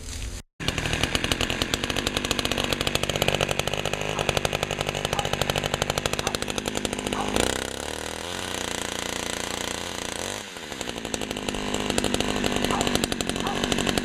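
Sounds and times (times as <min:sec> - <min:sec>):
chainsaw engine running: 0:00.6 - 0:14.0.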